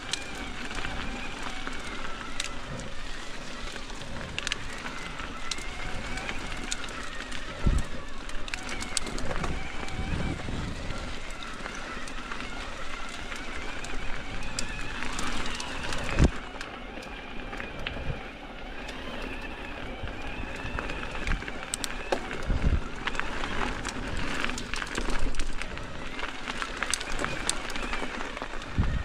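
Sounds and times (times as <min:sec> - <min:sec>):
bike tyres on dirt trail: 0:00.0 - 0:29.0
small clicks and rattles: 0:00.0 - 0:29.0.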